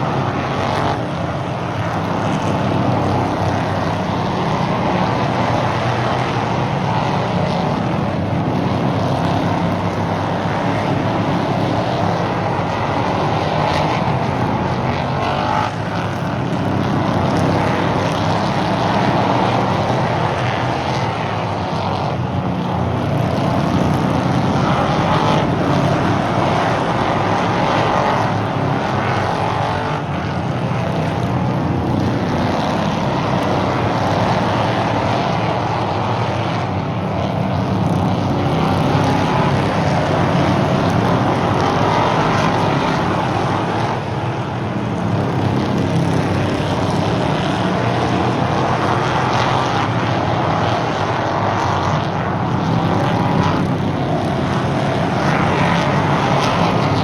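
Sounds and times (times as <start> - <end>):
racing car engines droning: 0.0 - 57.0.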